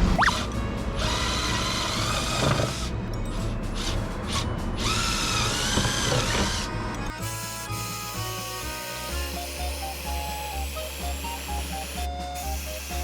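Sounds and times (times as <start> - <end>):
cordless power tool motor in wood: 0.2 - 2.9, 4.8 - 13.0.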